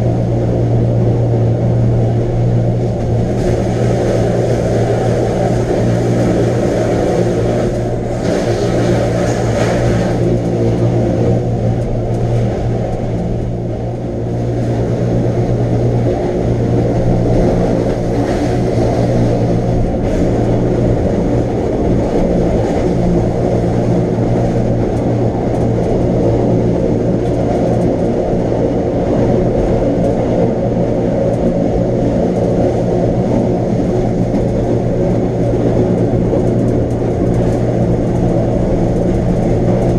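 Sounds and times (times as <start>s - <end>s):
train electric hum: 0.0s - 39.9s
train wheels rumbling: 0.0s - 39.9s.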